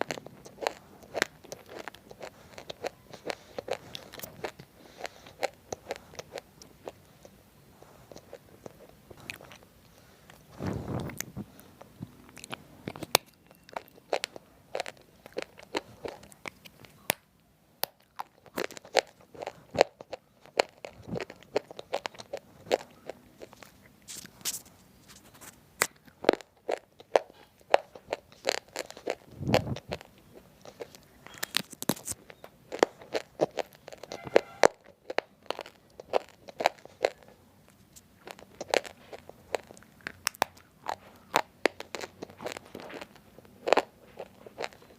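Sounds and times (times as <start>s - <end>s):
crunching and chewing clay chips: 0.0s - 44.9s.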